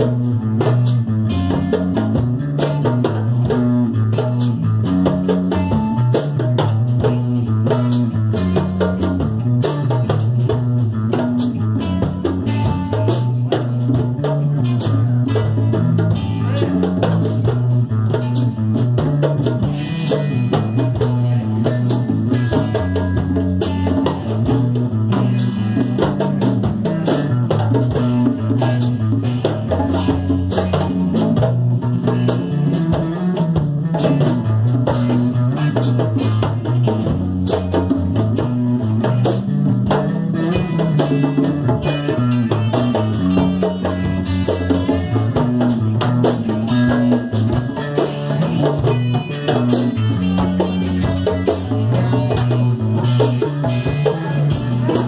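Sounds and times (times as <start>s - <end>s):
djembe hand drumming: 0.0s - 55.0s
electric guitar riff: 0.0s - 55.0s.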